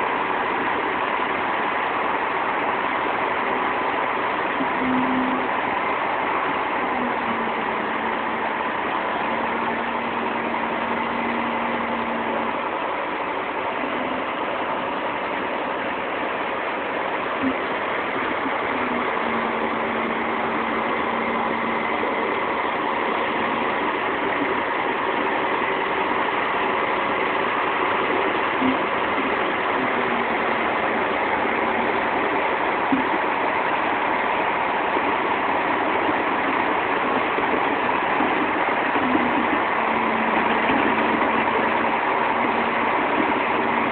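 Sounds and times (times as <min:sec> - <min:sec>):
truck engine running: 0:00.0 - 0:43.9
mechanical noise: 0:02.5 - 0:43.9.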